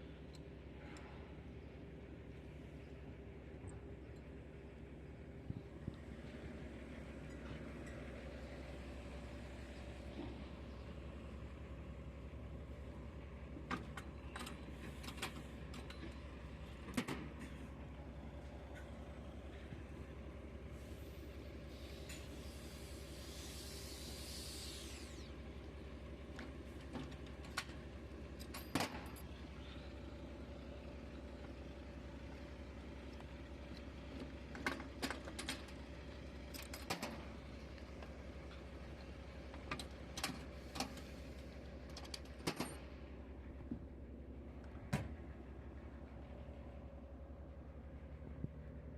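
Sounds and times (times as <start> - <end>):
diesel truck engine idling: 0.0 - 16.9, 17.5 - 28.5, 29.2 - 36.5, 37.2 - 48.9.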